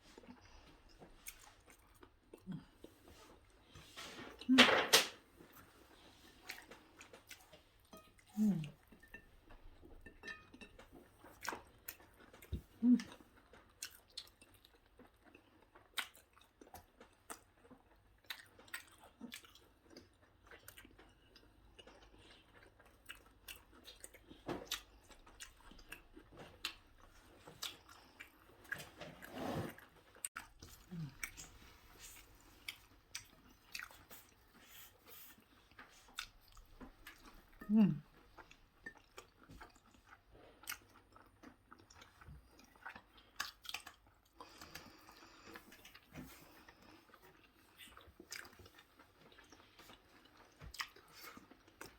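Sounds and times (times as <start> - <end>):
person chewing food: 0.0 - 4.6, 5.2 - 51.9.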